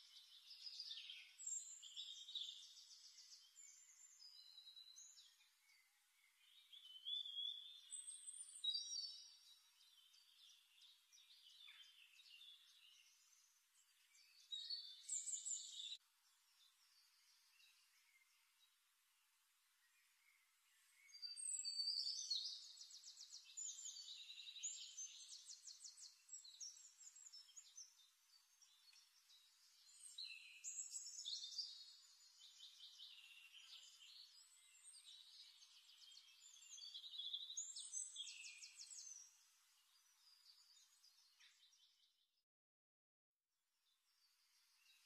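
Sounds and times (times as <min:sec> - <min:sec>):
faint birdsong chirps and trills: 0:00.0 - 0:42.4, 0:43.6 - 0:45.0.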